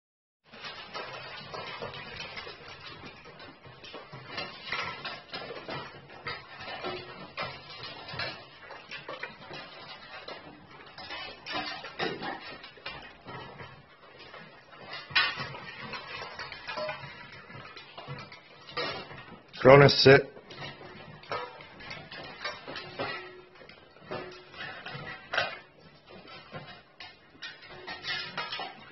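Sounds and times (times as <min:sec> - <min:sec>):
dogs eating kibble: 0:00.5 - 0:28.9
metal bowls clinking and scraping: 0:00.5 - 0:28.9.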